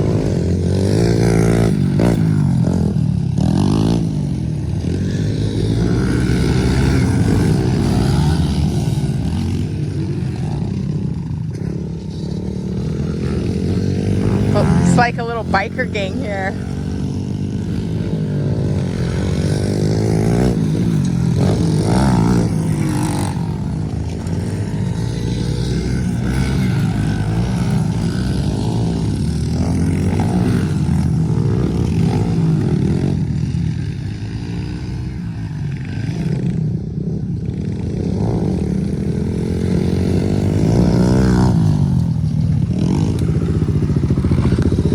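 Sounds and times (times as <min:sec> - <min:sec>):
pit bike engine revving: 0:00.0 - 0:44.9.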